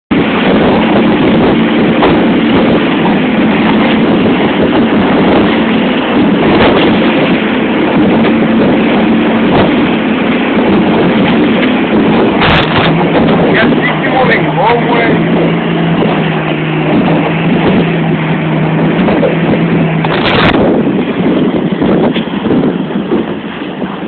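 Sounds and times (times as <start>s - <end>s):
outboard motor running: 0.1s - 24.0s
wind noise on microphone: 0.1s - 24.0s.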